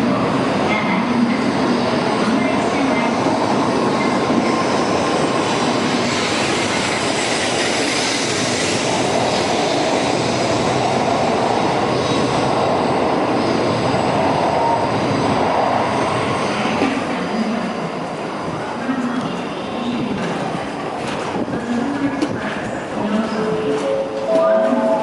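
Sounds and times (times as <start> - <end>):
train rushing past: 0.0 - 25.0.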